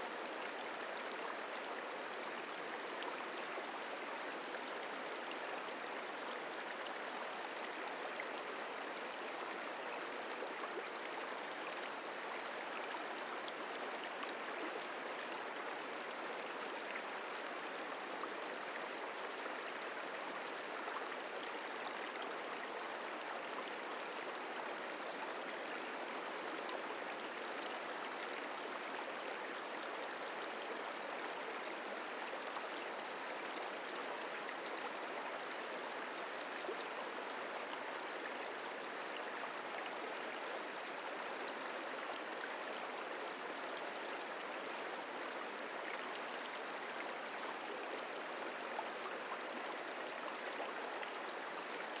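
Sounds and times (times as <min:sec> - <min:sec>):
stream water rushing and gurgling: 0:00.0 - 0:52.0.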